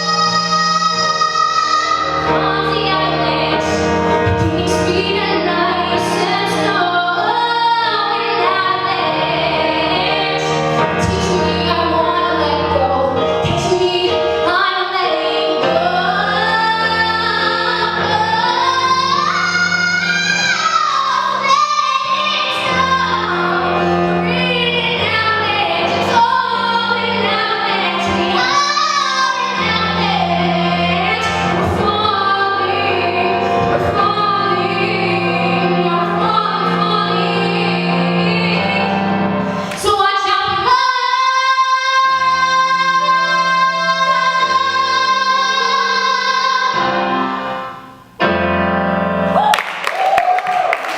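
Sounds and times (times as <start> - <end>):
young woman singing: 0.0 - 47.3
musical accompaniment: 0.0 - 50.9.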